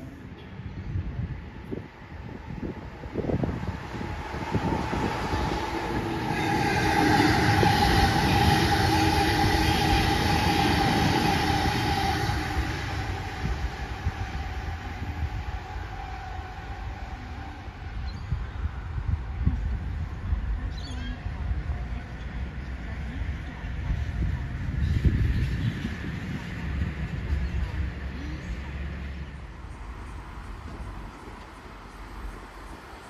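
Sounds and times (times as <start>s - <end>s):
electric train whine: 0.0s - 33.0s
train rail and wheel noise: 0.0s - 33.0s.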